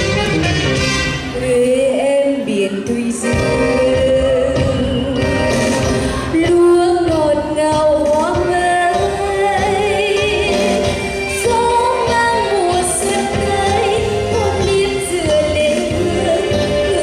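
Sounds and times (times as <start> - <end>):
instrumental accompaniment: 0.0 - 1.8, 2.9 - 17.0
woman singing slow song: 1.4 - 17.0.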